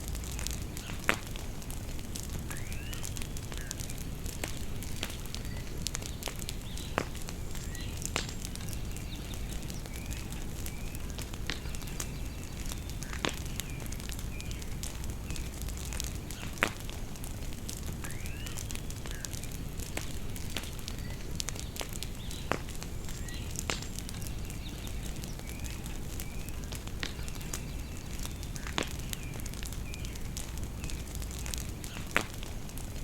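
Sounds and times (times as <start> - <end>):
bonfire crackling and popping: 0.0 - 33.0
birds chirping: 2.5 - 17.2, 18.0 - 32.9.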